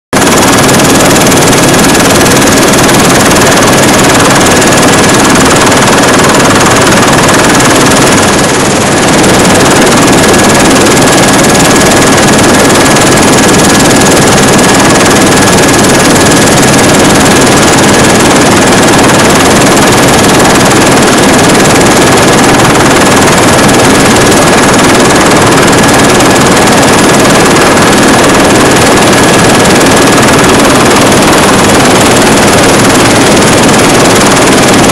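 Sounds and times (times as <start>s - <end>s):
helicopter engine and rotor noise: 0.2s - 34.9s.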